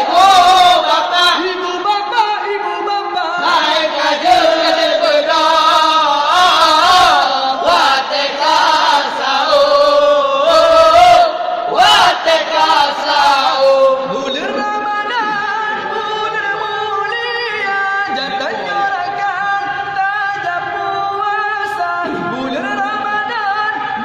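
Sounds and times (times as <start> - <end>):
young man singing a chant: 0.0 - 24.0.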